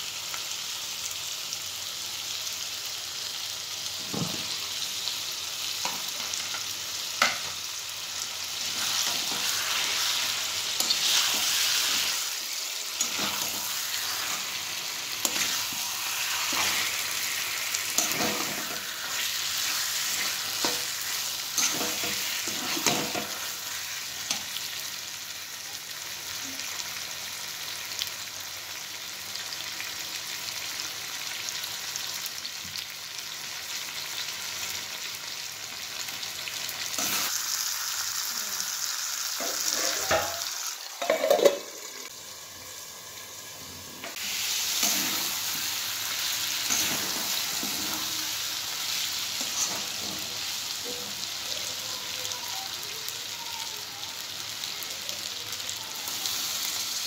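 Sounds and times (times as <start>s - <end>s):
food sizzling in pan: 0.0s - 57.0s.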